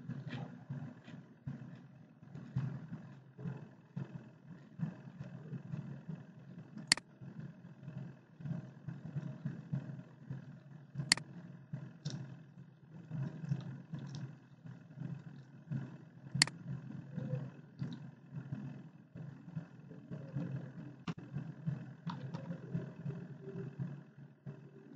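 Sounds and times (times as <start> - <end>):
low rumble and hum: 0.0 - 24.9.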